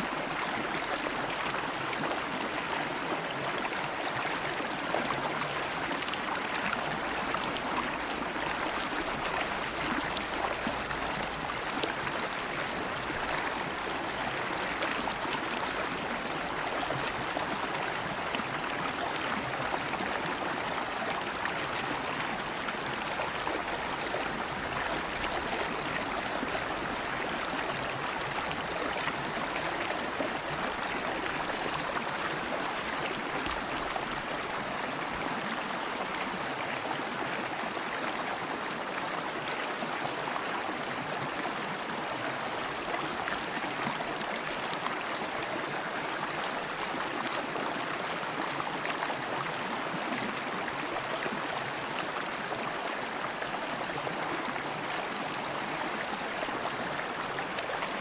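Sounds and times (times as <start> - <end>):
river water flowing over stones: 0.0 - 58.0.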